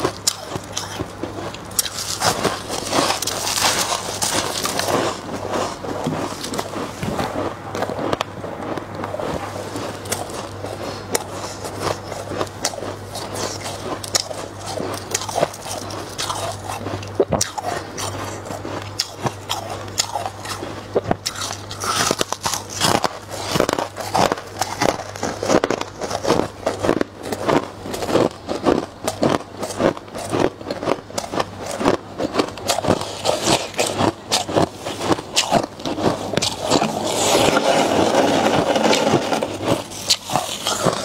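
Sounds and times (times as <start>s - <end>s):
frost crunching while chewed: 0.0s - 41.0s
steady low hum: 0.0s - 41.0s.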